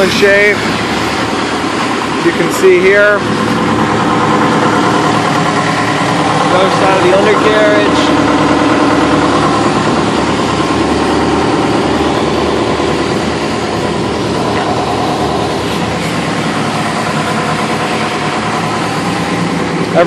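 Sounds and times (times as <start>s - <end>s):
excavator diesel engine idling: 0.0s - 20.0s.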